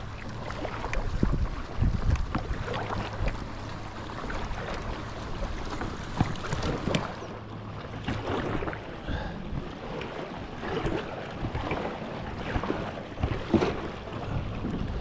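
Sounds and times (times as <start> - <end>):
paddle splashing in water: 0.0 - 15.0
wind on microphone: 0.0 - 15.0.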